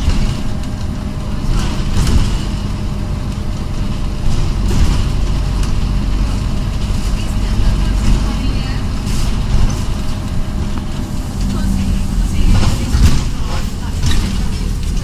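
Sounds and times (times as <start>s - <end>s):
bus diesel engine droning: 0.0s - 15.0s
road noise: 0.0s - 15.0s.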